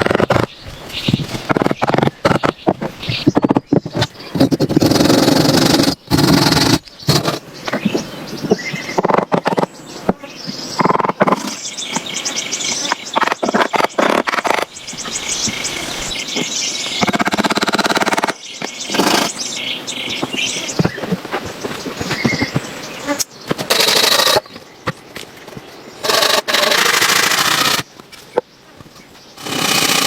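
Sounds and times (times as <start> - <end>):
birds calling: 0.0 - 30.0
insects calling: 0.0 - 30.0.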